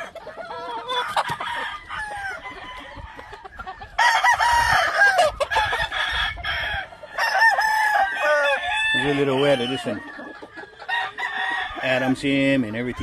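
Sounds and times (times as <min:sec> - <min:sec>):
chickens clucking: 0:00.0 - 0:13.0
roosters crowing: 0:00.0 - 0:13.0.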